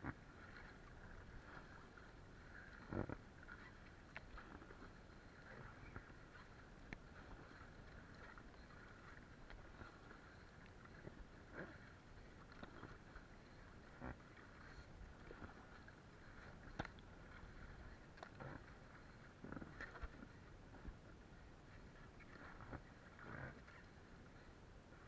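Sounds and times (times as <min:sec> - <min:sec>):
water lapping and splashing: 0:00.0 - 0:25.0.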